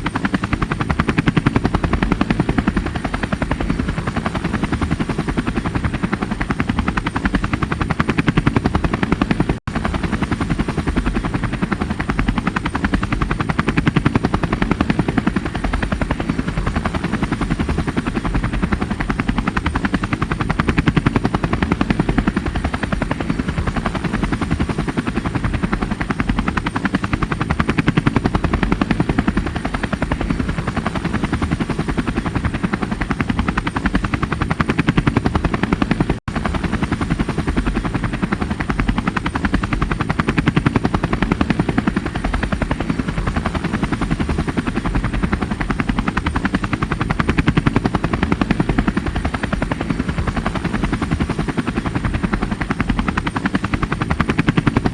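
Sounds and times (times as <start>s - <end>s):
helicopter engine and turbine: 0.0s - 54.9s
helicopter rotor chop: 0.0s - 54.9s.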